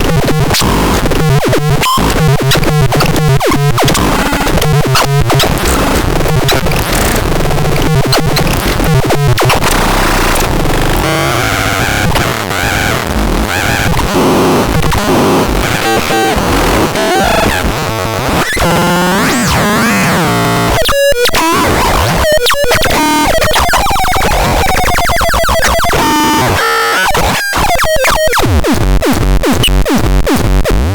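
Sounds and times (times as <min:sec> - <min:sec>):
glitchy warbling electronic tones: 0:01.8 - 0:17.7, 0:18.3 - 0:28.8.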